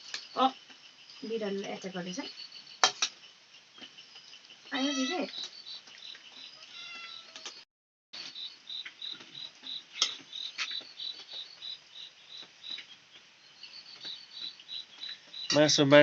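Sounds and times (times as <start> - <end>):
cricket chirping: 0.0 - 7.6, 8.2 - 16.0.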